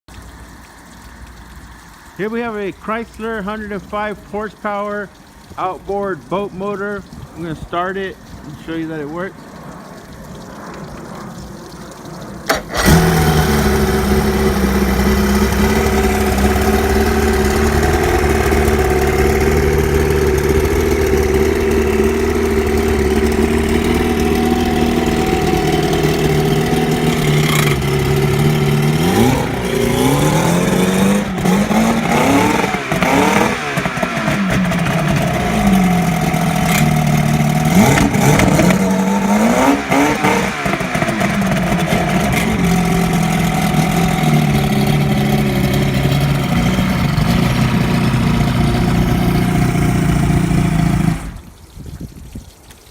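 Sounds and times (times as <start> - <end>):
outboard motor starting and revving: 0.2 - 6.9, 10.6 - 51.6.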